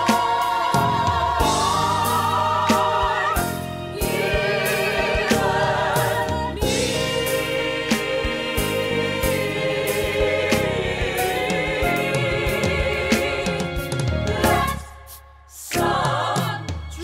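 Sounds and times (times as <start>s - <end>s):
gospel choir singing harmonies: 0.0s - 17.0s.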